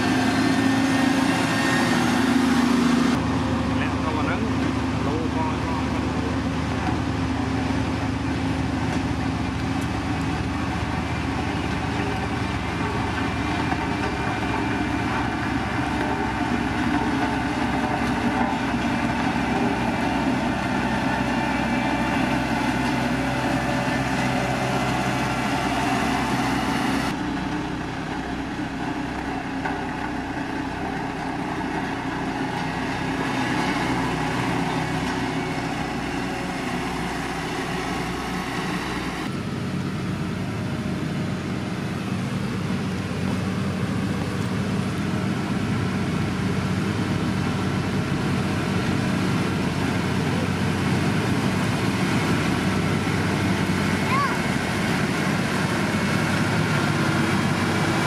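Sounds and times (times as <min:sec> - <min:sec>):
road roller diesel engines: 0:00.0 - 0:58.0.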